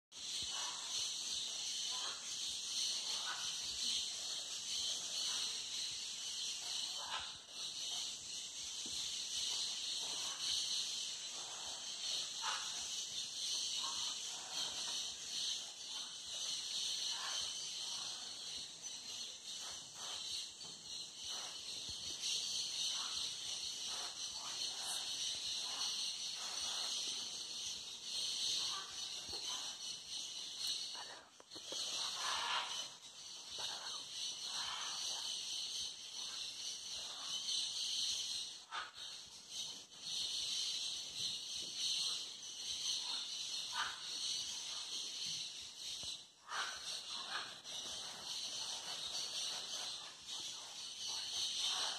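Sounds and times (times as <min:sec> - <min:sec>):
insect chorus drone: 0:00.1 - 0:51.9.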